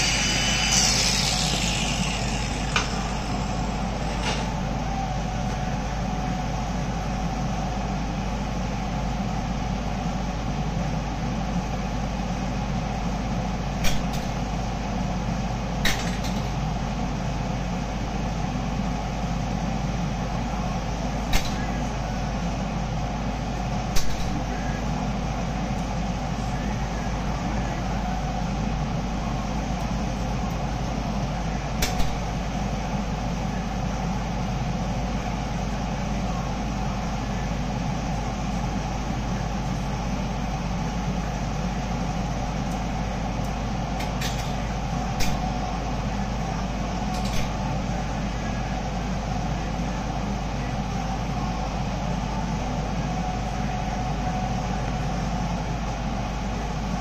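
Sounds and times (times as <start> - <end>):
machine noise with low hum: 0.0 - 57.0.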